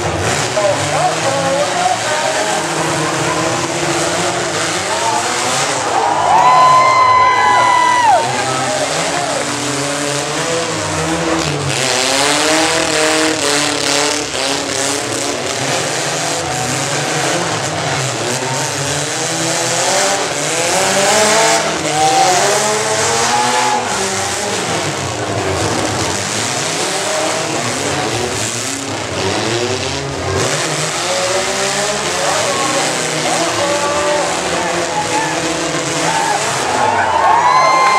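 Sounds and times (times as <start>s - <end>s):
pickup truck engines revving: 0.0s - 37.9s.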